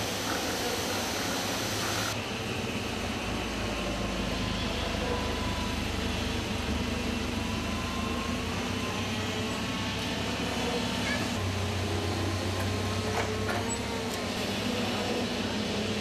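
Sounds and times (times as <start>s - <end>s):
factory machinery noise: 0.0s - 16.0s
forklift engine running: 0.0s - 16.0s.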